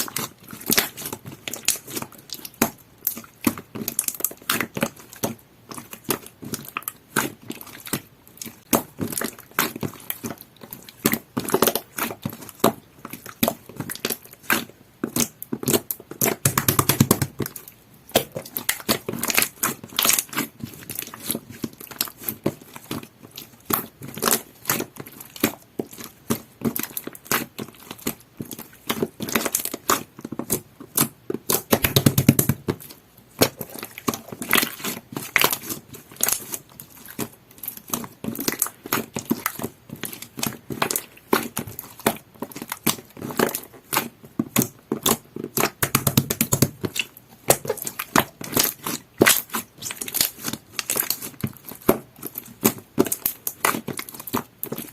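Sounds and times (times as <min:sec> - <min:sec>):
slime squished by hand: 0:00.0 - 0:54.9.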